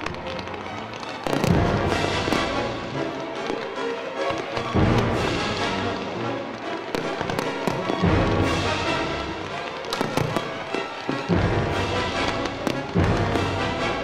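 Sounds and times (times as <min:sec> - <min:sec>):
fireworks booming: 0:00.0 - 0:14.0
fireworks crackling pops: 0:00.0 - 0:14.0
music: 0:00.0 - 0:14.0.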